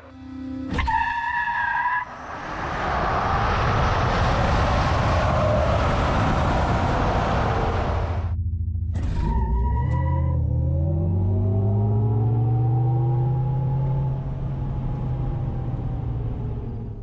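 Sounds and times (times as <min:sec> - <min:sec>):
wind and tyre noise: 0:00.7 - 0:08.4, 0:09.2 - 0:17.0.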